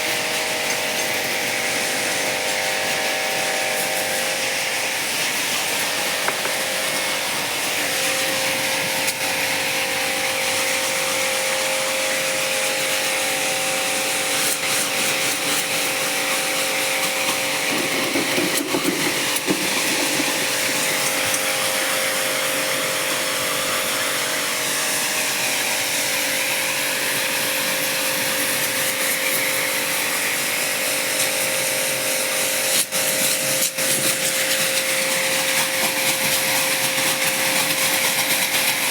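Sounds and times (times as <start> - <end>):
machine motor hissing and humming: 0.0 - 38.9.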